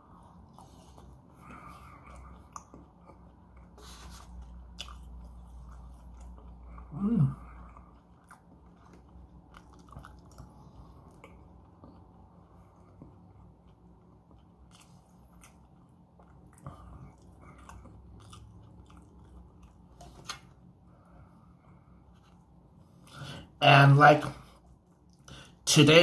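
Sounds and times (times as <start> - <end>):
person chewing food: 0.0 - 23.5, 24.4 - 25.6.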